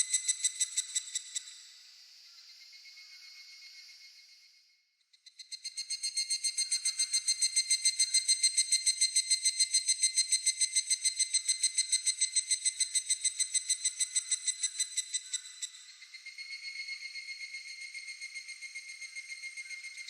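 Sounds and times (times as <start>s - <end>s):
cicada calling in ringing pulses: 0.0s - 4.0s, 5.4s - 20.0s.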